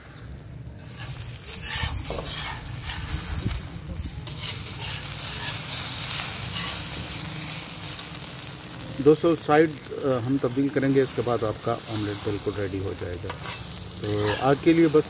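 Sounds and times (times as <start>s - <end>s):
omelette sizzling on griddle: 0.0s - 15.0s
metal spatula scraping griddle: 0.8s - 15.0s.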